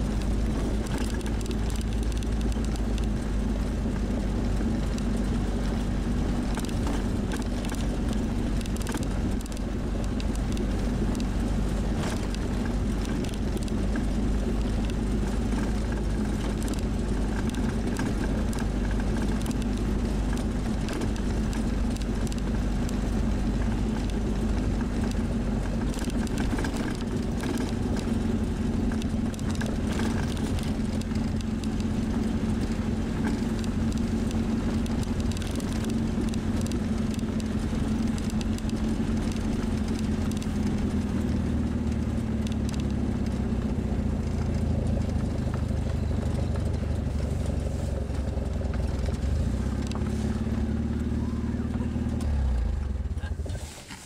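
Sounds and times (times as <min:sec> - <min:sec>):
car engine running: 0:00.0 - 0:54.0
road rumble: 0:00.0 - 0:54.0.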